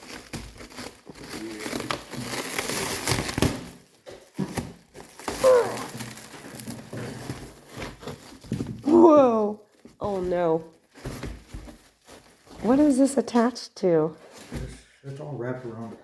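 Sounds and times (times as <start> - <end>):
packaging wrap crinkling: 0.0 - 13.3.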